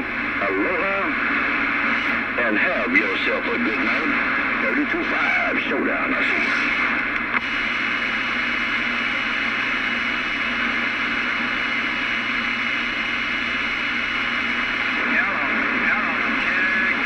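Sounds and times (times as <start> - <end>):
radio click: 0.0 - 17.0
radio static hiss: 0.0 - 17.0.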